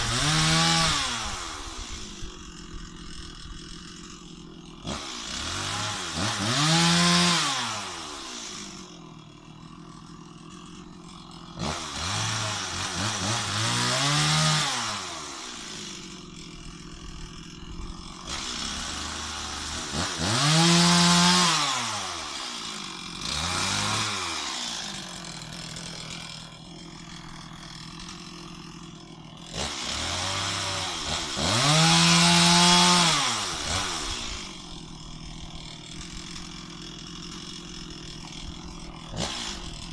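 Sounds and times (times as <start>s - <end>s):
chainsaw idling: 0.0s - 39.9s
chainsaw revving: 0.0s - 39.9s.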